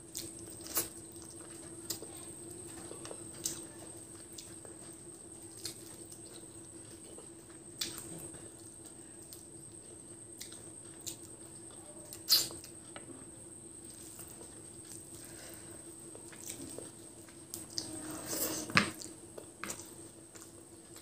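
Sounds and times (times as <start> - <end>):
chewing: 0.0 - 17.9, 19.0 - 21.0
faint steady hum: 0.0 - 21.0.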